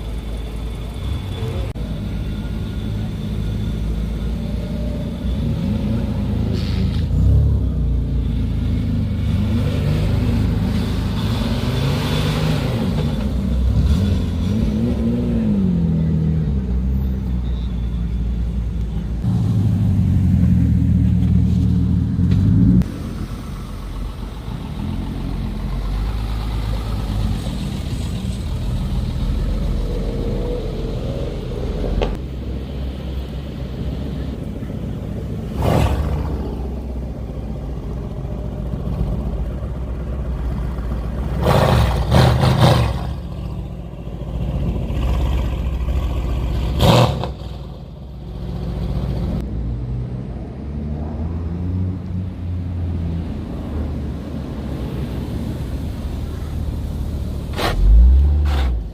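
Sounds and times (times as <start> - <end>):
car engines rumbling: 0.0 - 58.9.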